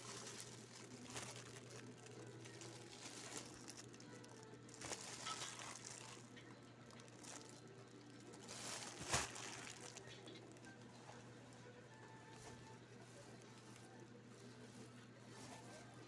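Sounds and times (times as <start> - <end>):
low steady hum: 0.0 - 16.0
plastic bag crinkling: 0.0 - 16.0.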